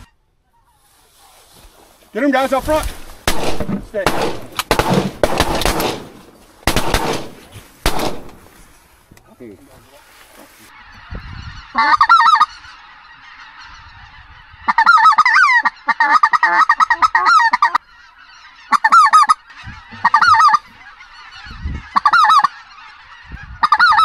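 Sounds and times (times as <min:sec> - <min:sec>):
flock of geese honking: 0:00.0 - 0:24.0
geese yelping calls: 0:02.2 - 0:24.0.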